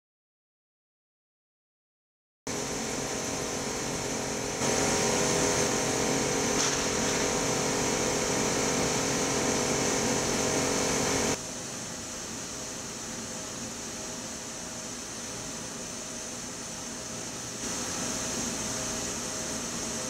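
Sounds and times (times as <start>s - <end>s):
laser engraver whirring: 2.5s - 20.0s.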